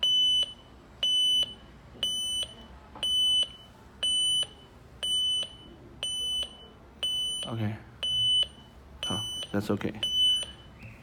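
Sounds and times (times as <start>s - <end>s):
high-pitched alarm beeps: 0.0s - 11.0s.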